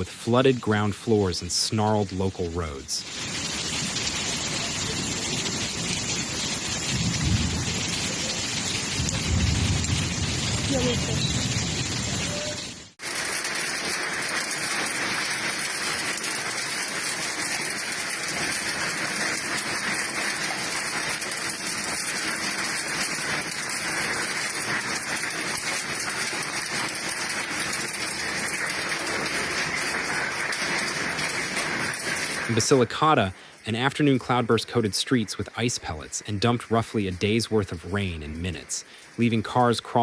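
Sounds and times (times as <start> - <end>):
rain falling: 0.0 - 40.0.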